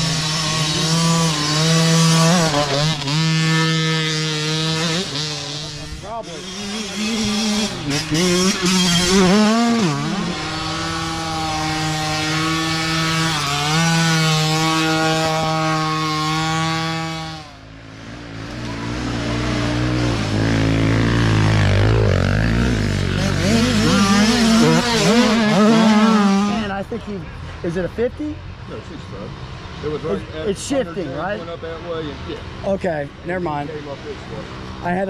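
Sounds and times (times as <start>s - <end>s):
dirt bike engines: 0.0s - 35.0s.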